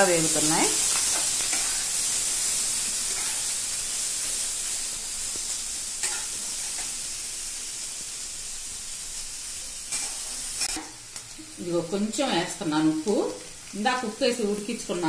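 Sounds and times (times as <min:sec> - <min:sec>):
carrots sizzling in hot oil: 0:00.0 - 0:15.0.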